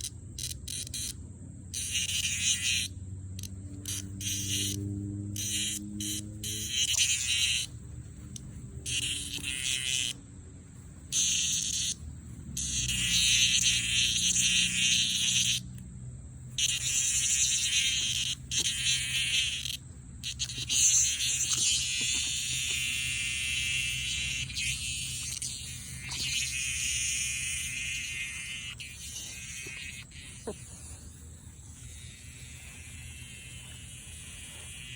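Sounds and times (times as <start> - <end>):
cicadas buzzing: 0.0 - 34.9.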